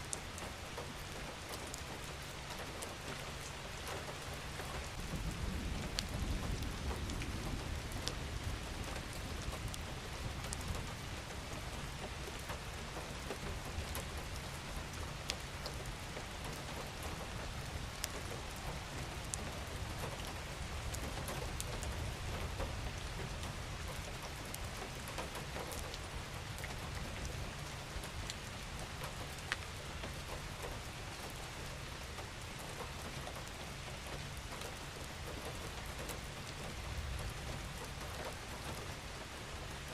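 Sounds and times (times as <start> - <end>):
individual raindrops ticking: 0.0 - 39.9
steady rain falling: 0.0 - 39.9.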